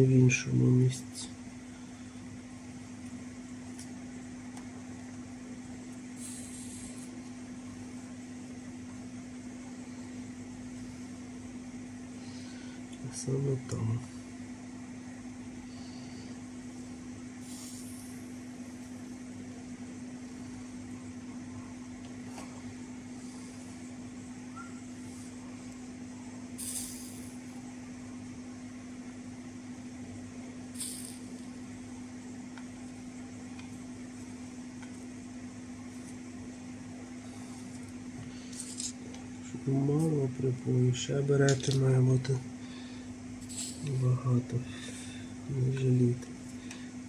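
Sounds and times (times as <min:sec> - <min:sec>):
flux sizzling under soldering iron: 0:00.0 - 0:47.0.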